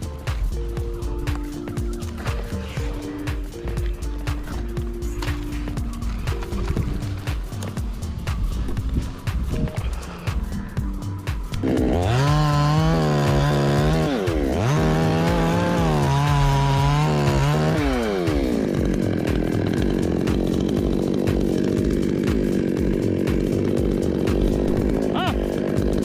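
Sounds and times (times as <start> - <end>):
chainsaw running: 0.0 - 26.0.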